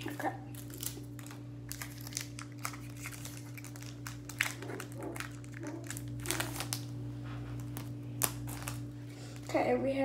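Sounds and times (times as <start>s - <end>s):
plastic wrapper crinkling: 0.0s - 9.7s.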